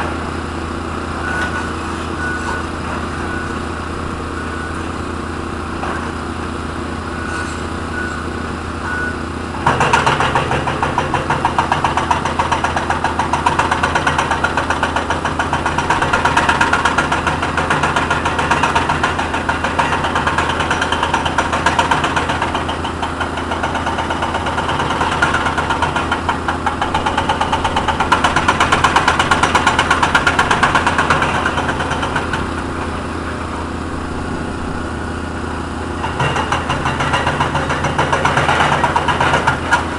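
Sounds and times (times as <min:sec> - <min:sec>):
hydraulic breaker hammer pounding: 0:00.0 - 0:04.7, 0:08.9 - 0:34.6, 0:35.3 - 0:39.9
excavator diesel engine running: 0:00.0 - 0:39.9.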